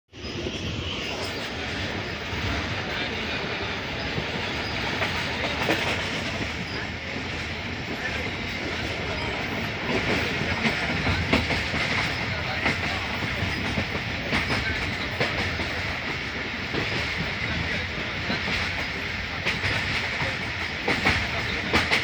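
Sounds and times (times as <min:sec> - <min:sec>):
train wheels rumbling on rails: 0:00.1 - 0:22.0.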